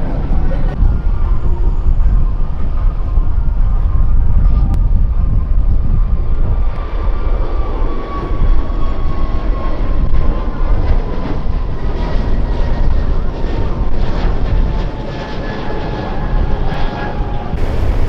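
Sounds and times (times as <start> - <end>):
jet airliner engines rumbling: 0.0 - 18.0.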